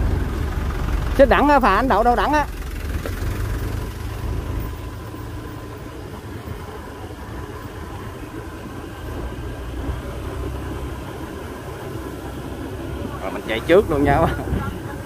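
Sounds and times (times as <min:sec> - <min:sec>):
road and wind noise: 0:00.0 - 0:15.0
vehicle engine rumble: 0:00.0 - 0:15.0.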